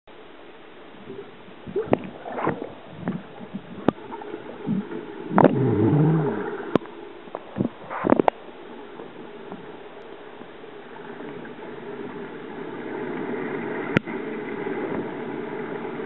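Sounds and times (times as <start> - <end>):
muffled underwater swimming splashes: 0.1 - 16.0.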